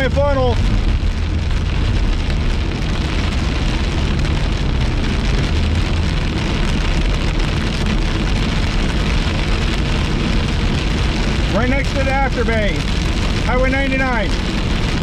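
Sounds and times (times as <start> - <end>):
heavy rain on car windshield: 0.0 - 15.0
road and wind rumble: 0.0 - 15.0.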